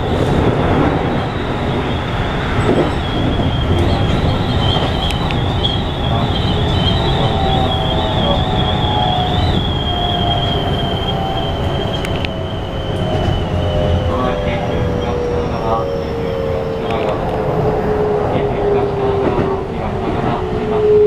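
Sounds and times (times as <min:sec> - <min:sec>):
high wheel squeal: 0:00.0 - 0:19.7
train running rumble: 0:00.0 - 0:21.0.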